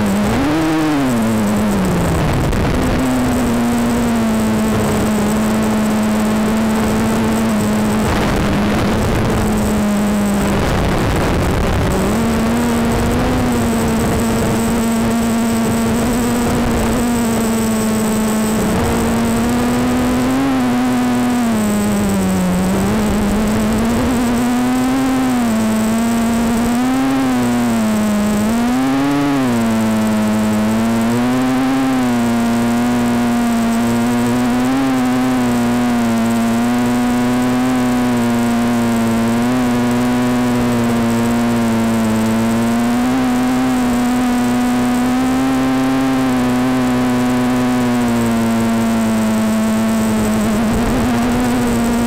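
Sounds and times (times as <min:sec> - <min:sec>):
quadcopter motors whining: 0:00.0 - 0:52.0.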